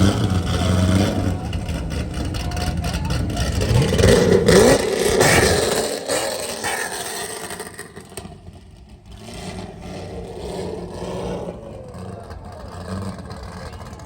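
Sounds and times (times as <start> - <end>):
car engine revving: 0.0 - 14.0
engines droning: 0.0 - 14.0.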